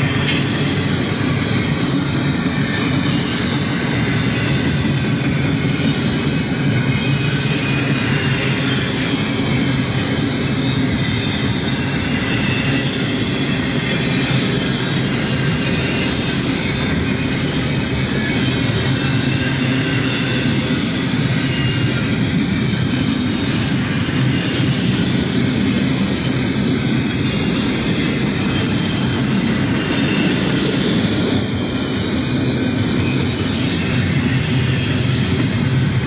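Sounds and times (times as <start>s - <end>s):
steel wheels running on rails: 0.0s - 36.0s.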